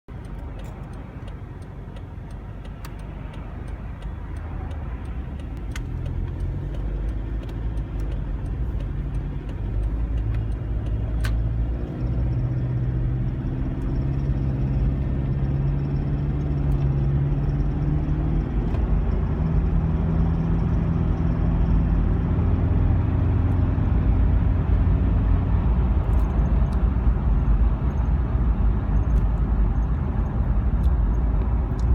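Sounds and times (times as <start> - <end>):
diesel engine running: 0.1 - 31.9.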